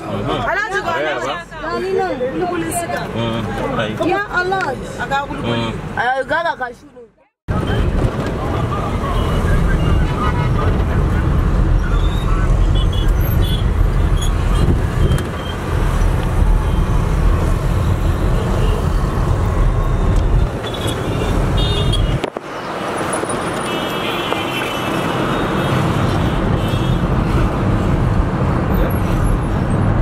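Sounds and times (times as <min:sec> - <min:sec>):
road traffic engines: 0:00.0 - 0:30.0.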